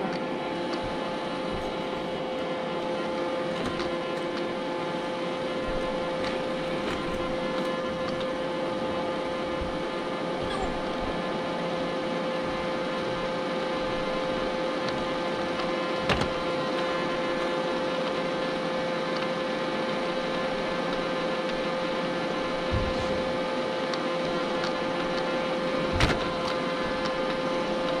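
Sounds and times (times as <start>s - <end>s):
robot vacuum motor whine: 0.0s - 28.0s.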